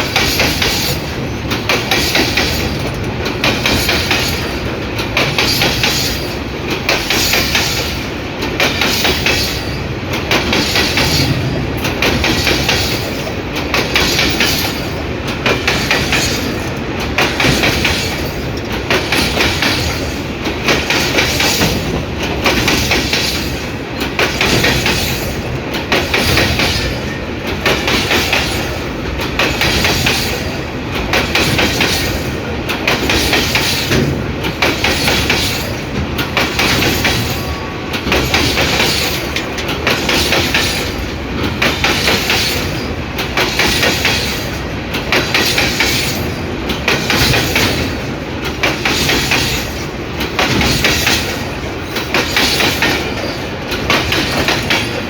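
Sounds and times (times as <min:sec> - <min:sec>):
wheels clattering over rail joints: 0:00.0 - 0:55.0.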